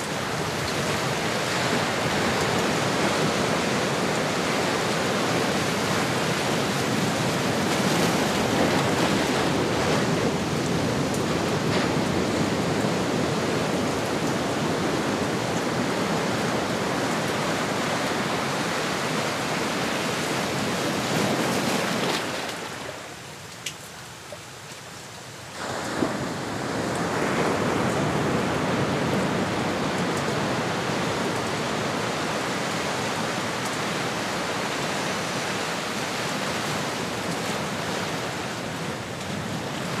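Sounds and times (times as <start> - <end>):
ocean waves washing: 0.0 - 23.5, 25.2 - 40.0.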